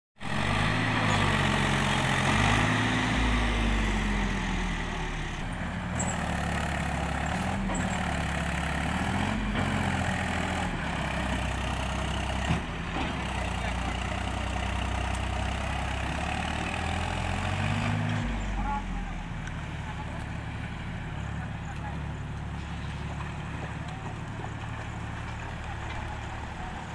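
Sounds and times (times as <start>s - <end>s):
tractor diesel engine under load: 0.2s - 26.9s.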